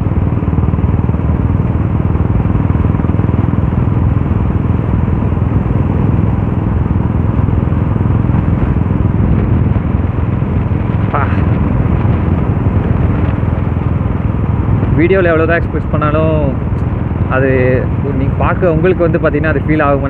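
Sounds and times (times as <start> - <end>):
motorcycle engine running: 0.0 - 20.0
road and wind noise: 0.0 - 20.0.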